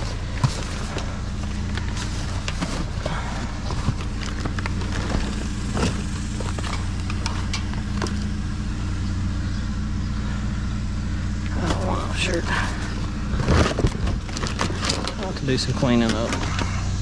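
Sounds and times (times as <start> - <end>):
trash rummaging clicks and rustles: 0.0 - 8.5, 11.5 - 17.0
vehicle engine idling: 0.0 - 17.0.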